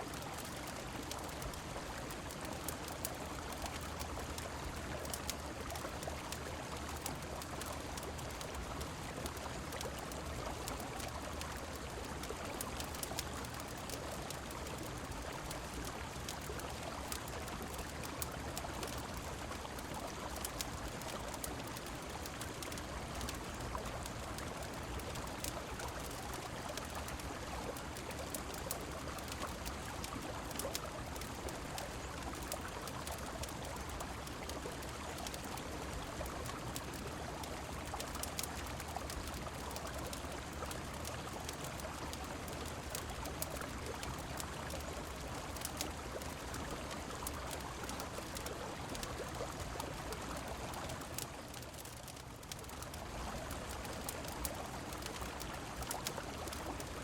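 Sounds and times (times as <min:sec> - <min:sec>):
rain falling: 0:00.0 - 0:57.0
river flowing: 0:00.0 - 0:57.0.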